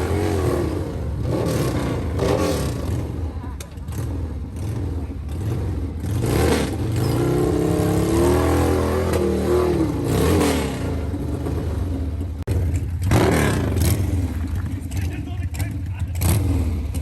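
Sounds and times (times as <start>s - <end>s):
motorcycle engine revving hard: 0.0s - 17.0s.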